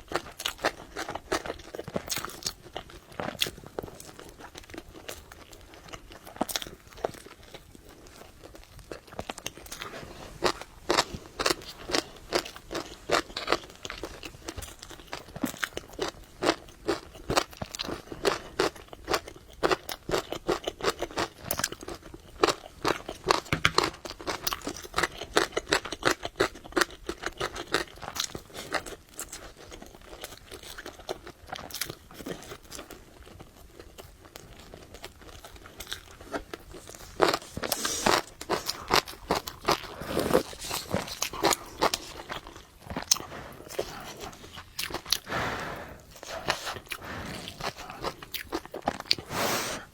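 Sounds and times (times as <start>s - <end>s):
chewing noodles: 0.0s - 49.9s.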